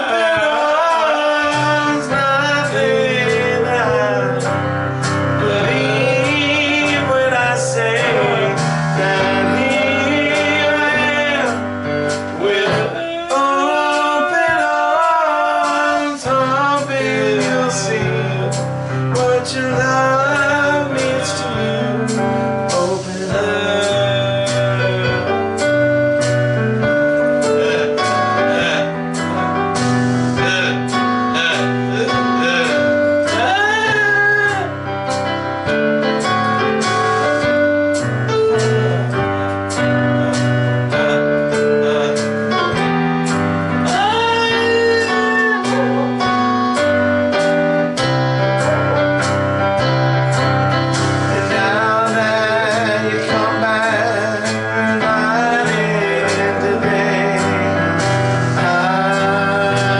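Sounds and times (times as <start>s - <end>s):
song with steady beat: 0.0s - 59.9s.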